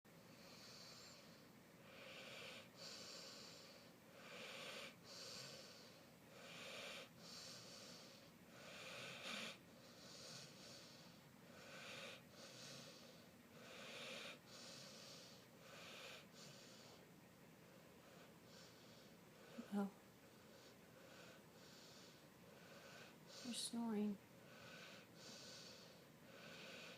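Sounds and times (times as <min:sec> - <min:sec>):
dog snoring: 0:00.2 - 0:17.0, 0:18.0 - 0:26.9.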